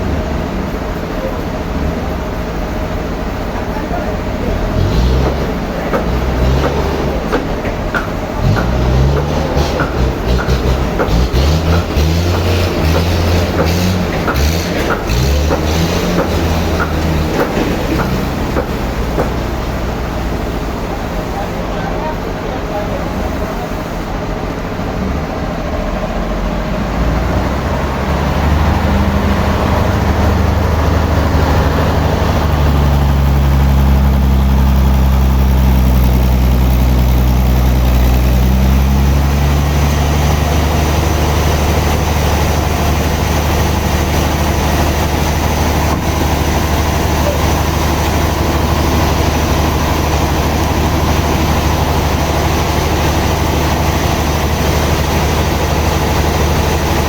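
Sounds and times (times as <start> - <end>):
heavy engine running: 0.0 - 57.0.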